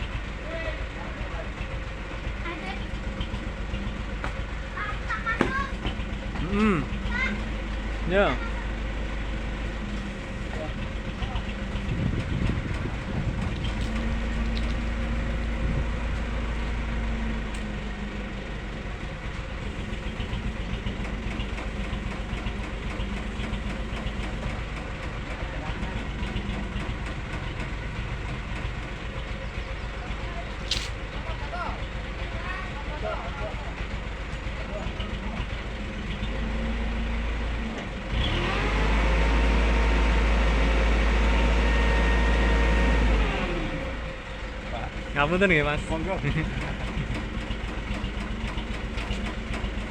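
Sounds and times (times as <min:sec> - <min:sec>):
engine idling with low rumble: 0:00.0 - 0:49.9.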